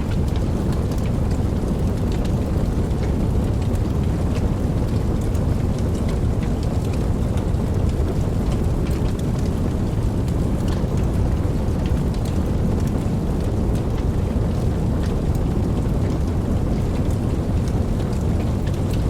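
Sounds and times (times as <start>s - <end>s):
rain rumbling: 0.0s - 19.0s
raindrops ticking: 0.0s - 19.0s.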